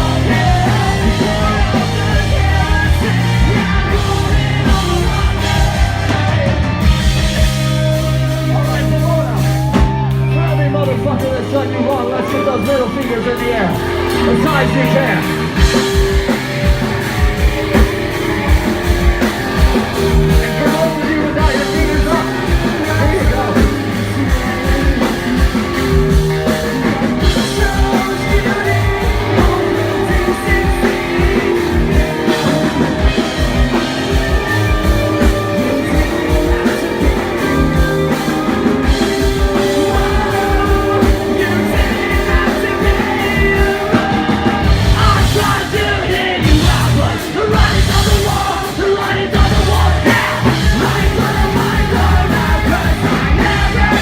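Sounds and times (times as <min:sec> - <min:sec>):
distorted guitars and bass: 0:00.0 - 0:54.0
drums: 0:00.0 - 0:54.0
person singing: 0:00.0 - 0:54.0.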